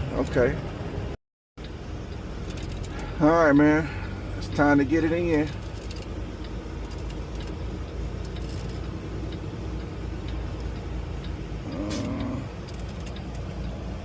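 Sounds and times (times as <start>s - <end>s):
truck diesel engine rumbling: 0.0s - 14.0s
turn signal ticking: 1.6s - 14.0s.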